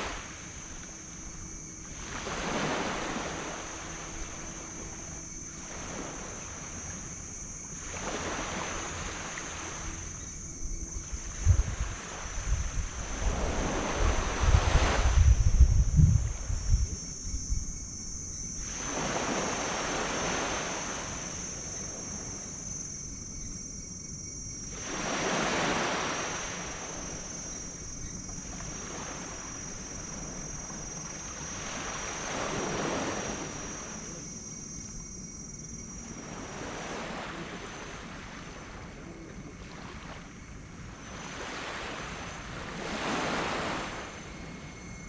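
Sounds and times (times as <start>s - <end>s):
waves breaking on sand beach: 0.0s - 10.3s, 11.0s - 15.6s, 18.6s - 22.4s, 24.7s - 34.6s, 35.9s - 44.4s.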